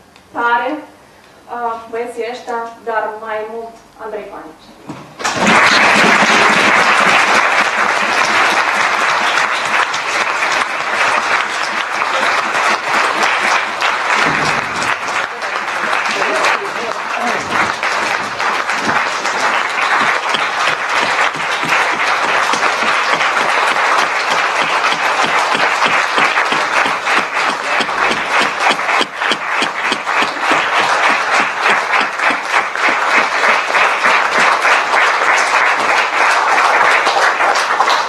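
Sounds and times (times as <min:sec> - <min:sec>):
audience applauding: 0:05.2 - 0:38.0.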